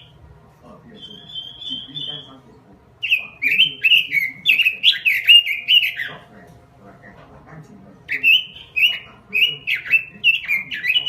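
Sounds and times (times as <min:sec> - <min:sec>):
bird singing warbling phrases: 0:00.0 - 0:00.2, 0:00.8 - 0:11.0.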